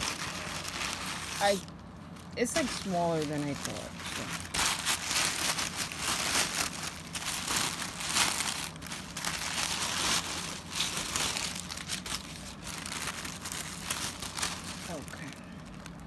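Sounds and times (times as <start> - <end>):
packing paper crumpling: 0.0 - 16.0.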